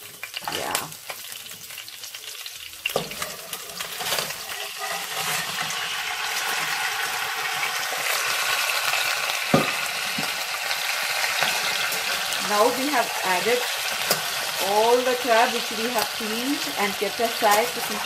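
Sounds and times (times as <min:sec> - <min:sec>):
crab sizzling in hot oil: 0:00.0 - 0:18.0.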